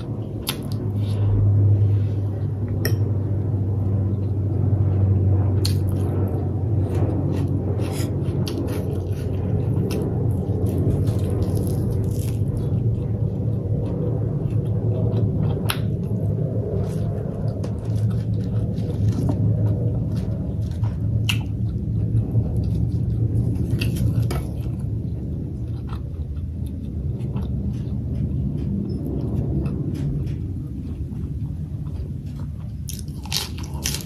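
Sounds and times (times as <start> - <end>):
chewing fried pork: 0.0 - 34.0
low rumble: 0.0 - 34.0.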